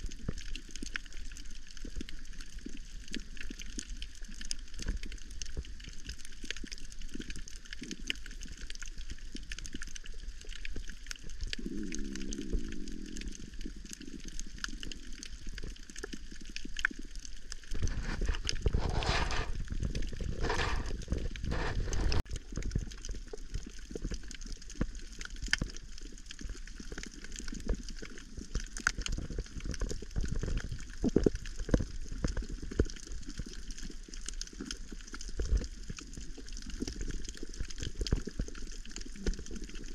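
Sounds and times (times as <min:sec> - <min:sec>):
bubbling gurgles: 0:00.0 - 0:39.9
muffled underwater wash: 0:00.0 - 0:39.9
small underwater clicks and crackles: 0:00.0 - 0:39.9.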